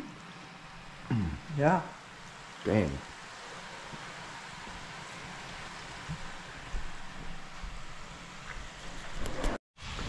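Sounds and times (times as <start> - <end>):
oil sizzling in deep fryer: 0.0 - 8.8.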